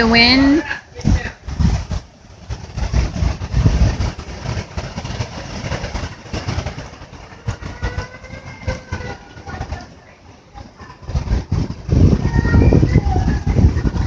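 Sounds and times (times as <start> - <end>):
gusting wind buffeting microphone: 0.0 - 14.0.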